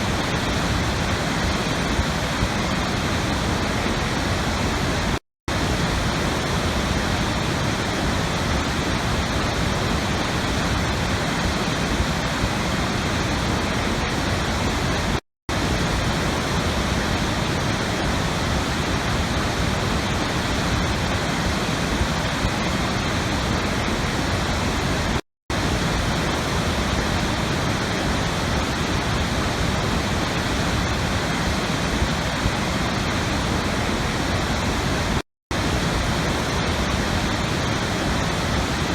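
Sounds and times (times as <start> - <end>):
rushing falling water: 0.0 - 38.9.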